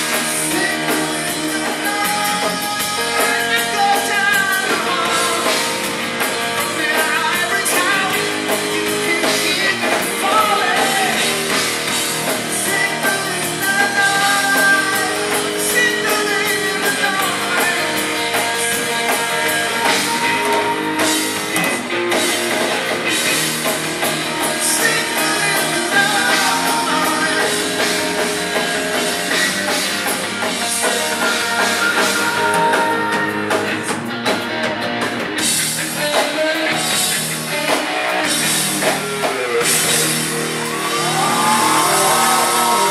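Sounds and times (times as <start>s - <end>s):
person singing: 0.0s - 21.4s, 24.3s - 35.0s, 38.8s - 42.9s
drum kit: 0.0s - 42.9s
electric guitar: 0.0s - 42.9s.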